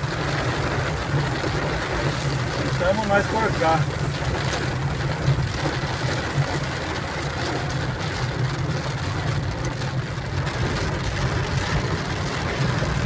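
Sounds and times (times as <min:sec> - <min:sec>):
rain hissing: 0:00.0 - 0:13.0
vehicle engine humming: 0:00.0 - 0:13.0.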